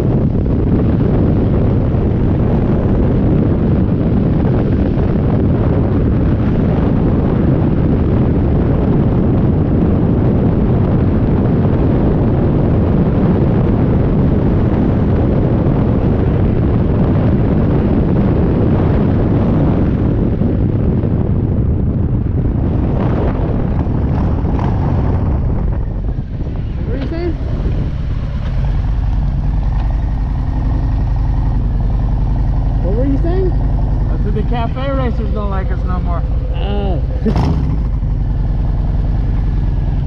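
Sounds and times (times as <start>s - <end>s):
motorcycle engine cruising: 0.0s - 40.0s
wind buffeting microphone: 0.0s - 40.0s.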